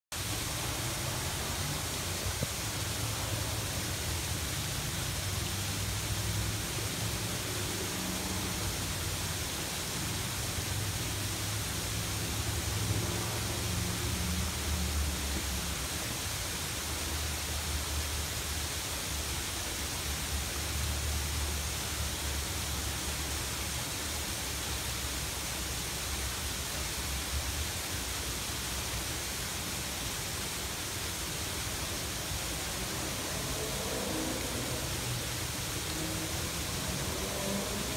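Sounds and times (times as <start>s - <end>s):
waterfall splashing into pond: 0.1s - 37.9s.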